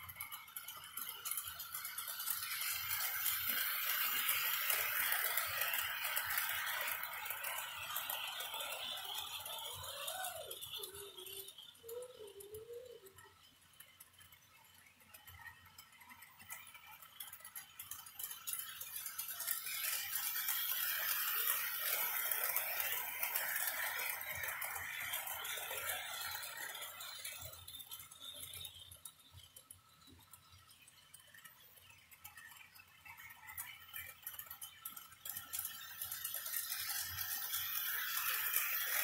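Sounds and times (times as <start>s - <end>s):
toy train rattling on track: 0.0s - 39.0s.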